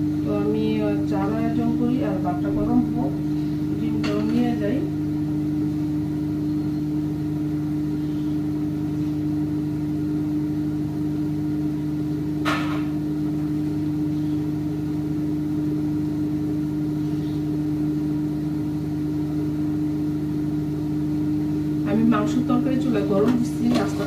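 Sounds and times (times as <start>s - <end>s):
appliance motor humming: 0.0s - 24.0s.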